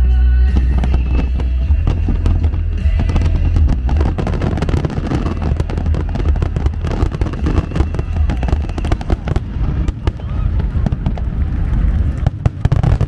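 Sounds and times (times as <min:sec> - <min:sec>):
fireworks bangs and crackles: 0:00.4 - 0:13.0.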